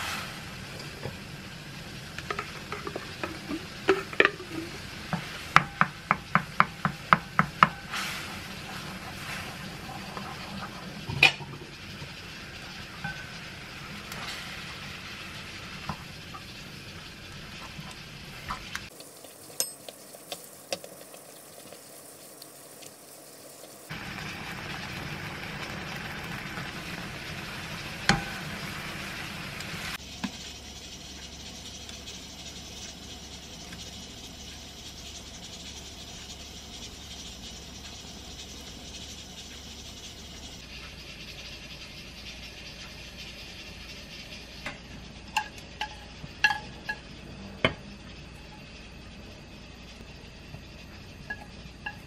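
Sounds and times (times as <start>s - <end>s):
food sizzling in a pan: 0.0s - 52.0s.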